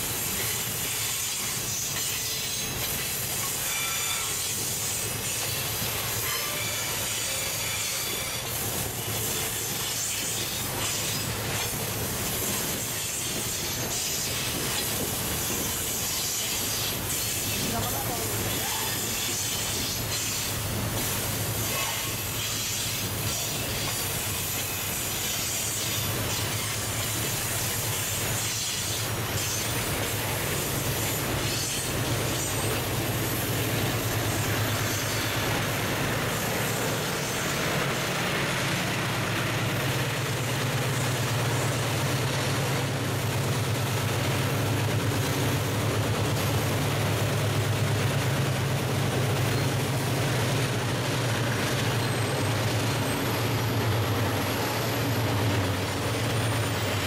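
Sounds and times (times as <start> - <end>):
diesel locomotive drone: 0.0 - 57.0.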